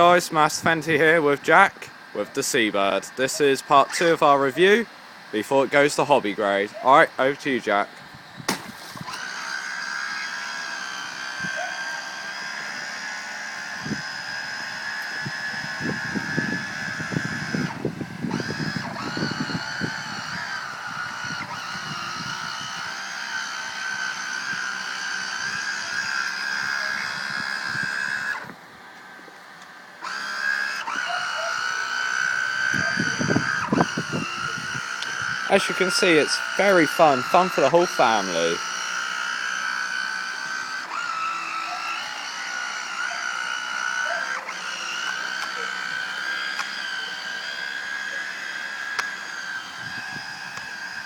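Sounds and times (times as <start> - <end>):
small electric motor whining: 0.0 - 51.0.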